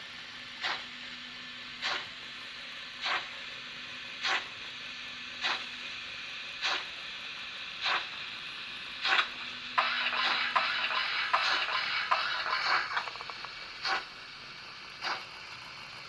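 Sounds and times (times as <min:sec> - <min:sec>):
slow steam locomotive chuffs: 0:00.0 - 0:16.0.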